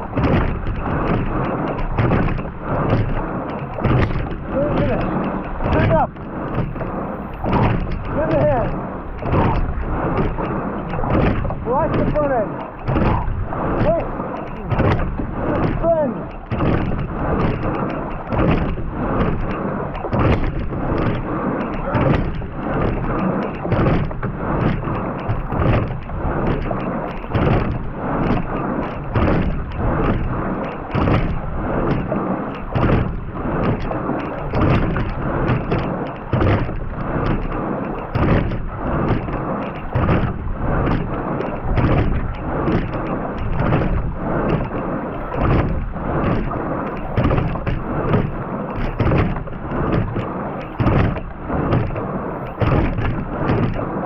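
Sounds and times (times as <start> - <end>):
water rushing along rowing boat hull: 0.0 - 54.0.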